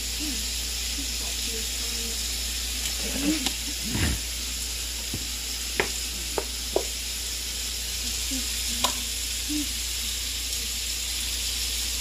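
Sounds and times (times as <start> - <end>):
shrimp sizzling in a frying pan: 0.0 - 12.0.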